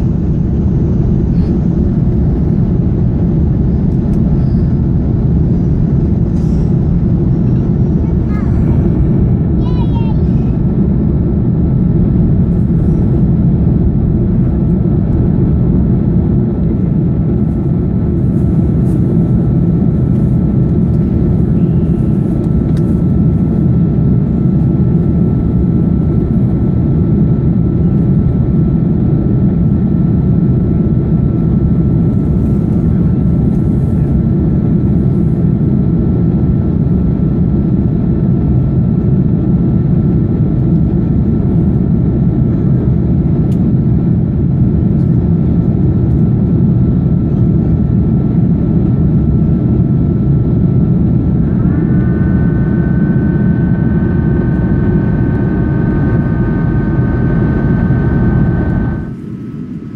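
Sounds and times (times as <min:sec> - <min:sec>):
airplane cabin engine noise: 0:00.0 - 0:59.9.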